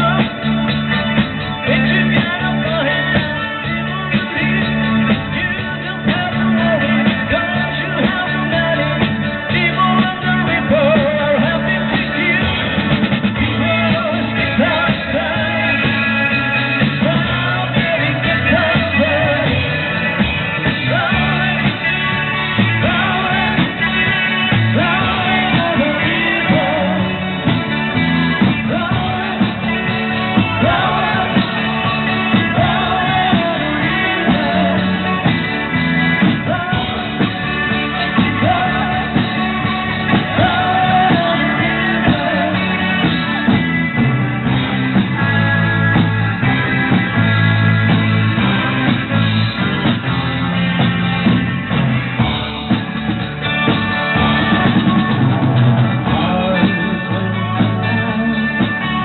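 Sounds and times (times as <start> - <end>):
lead vocal singing: 0.0 - 59.0
live rock band playing: 0.0 - 59.0.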